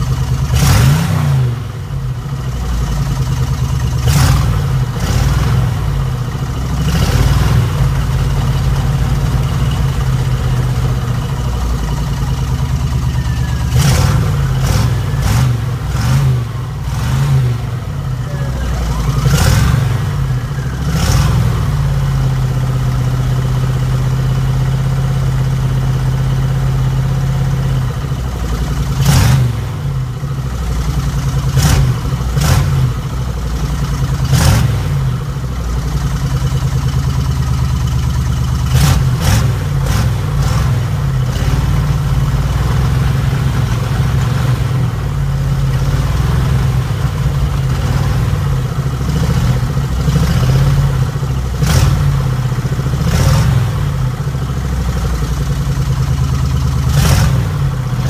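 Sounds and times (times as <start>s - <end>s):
van engine idling: 0.0s - 58.0s.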